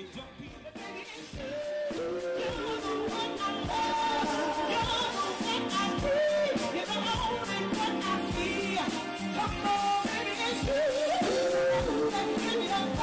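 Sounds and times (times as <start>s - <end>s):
live band music: 0.0s - 13.0s
steady drum beat: 0.0s - 13.0s.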